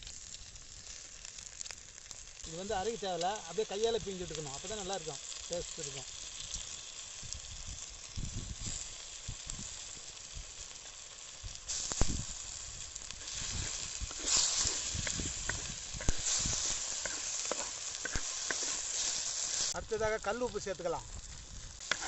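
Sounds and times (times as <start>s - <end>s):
frying sizzle in a pan: 0.0s - 22.0s.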